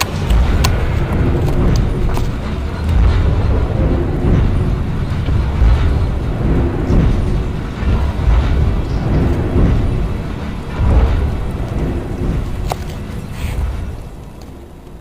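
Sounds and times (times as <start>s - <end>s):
low rumbling drone: 0.0s - 15.0s.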